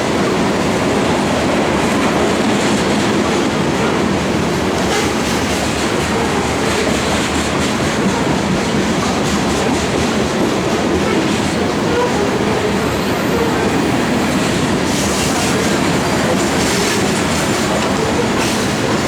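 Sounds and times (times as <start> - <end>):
freight train rolling past: 0.0 - 19.0
wheels clicking over rail joints: 0.5 - 19.0.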